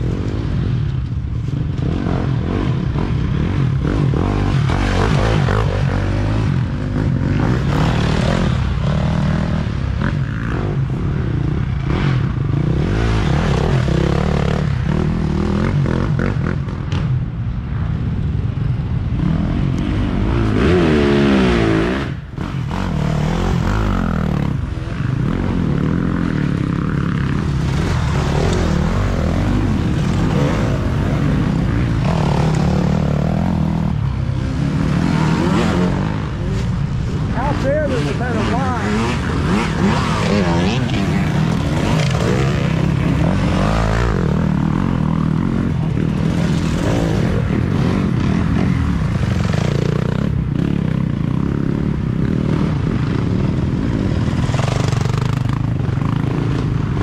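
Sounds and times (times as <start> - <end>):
dirt bike engine revving: 1.4 - 17.0, 19.2 - 57.0.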